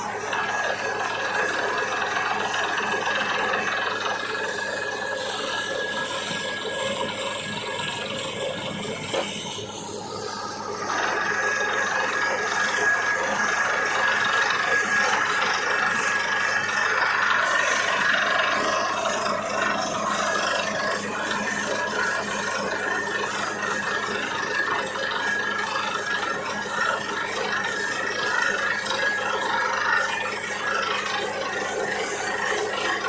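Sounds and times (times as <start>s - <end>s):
drilling rig running: 0.0s - 33.0s
high mechanical whine: 0.0s - 33.0s.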